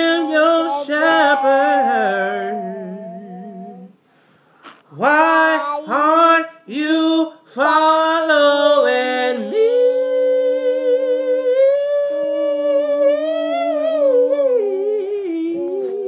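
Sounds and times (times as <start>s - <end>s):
man singing a cappella: 0.0s - 4.0s, 4.9s - 16.0s.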